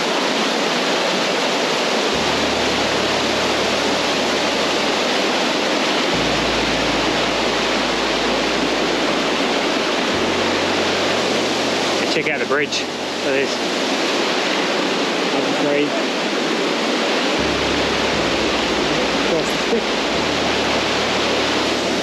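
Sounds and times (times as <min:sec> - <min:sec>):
flooded river rushing: 0:00.0 - 0:22.0.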